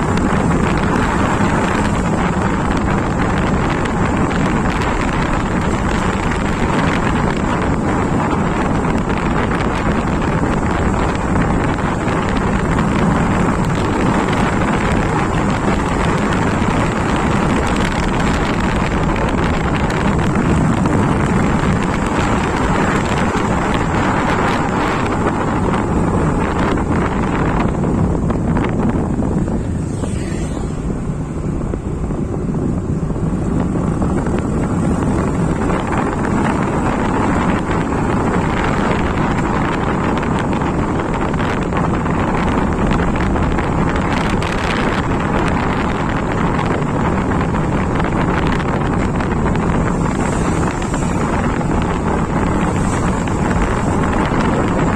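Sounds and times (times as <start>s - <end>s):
motorcycle engine running: 0.0s - 54.9s
road noise: 0.0s - 54.9s
wind rushing over microphone: 0.0s - 54.9s.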